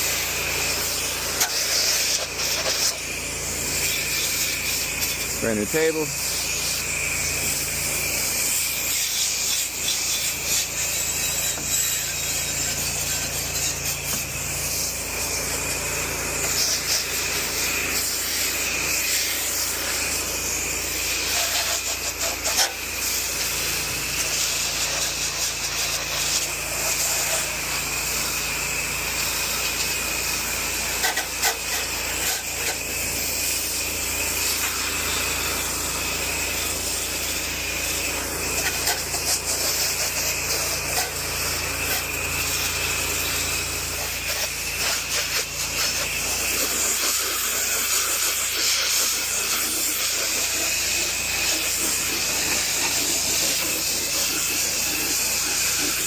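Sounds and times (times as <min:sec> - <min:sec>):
pressure washer engine hum: 0:00.0 - 0:56.0
water jet spraying on wood: 0:00.0 - 0:56.0.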